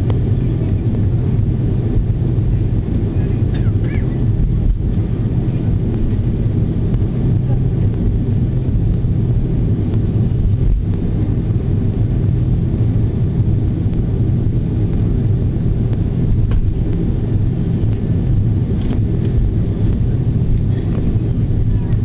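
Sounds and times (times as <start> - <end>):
aircraft engines rumbling: 0.0 - 22.0.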